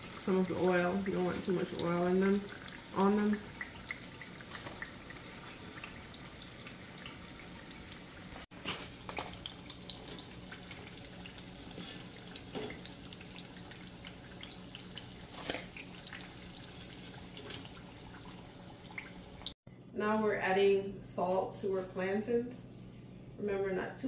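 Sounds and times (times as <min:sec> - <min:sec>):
frying oil sizzling and crackling: 0:00.0 - 0:19.6.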